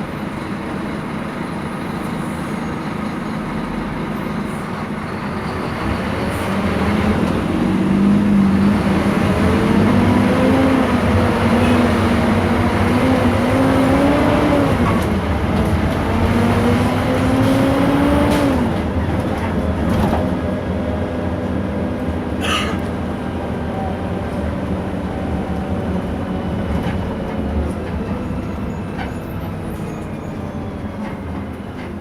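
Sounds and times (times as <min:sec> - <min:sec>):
bus accelerating with whining drive: 0:00.0 - 0:32.0.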